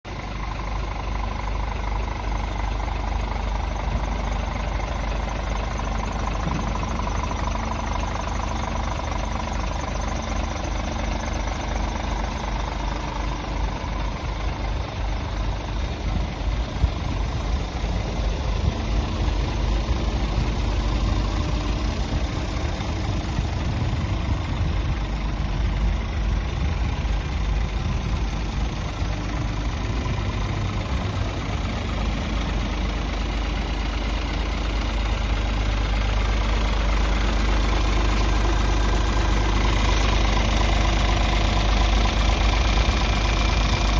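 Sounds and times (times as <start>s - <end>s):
diesel truck idling: 0.0s - 43.9s.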